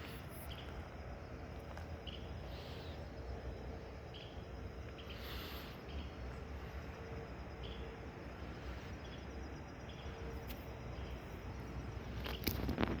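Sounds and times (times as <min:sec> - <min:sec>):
faint bird chirps: 0:00.0 - 0:13.0
steady low rumble: 0:00.0 - 0:13.0.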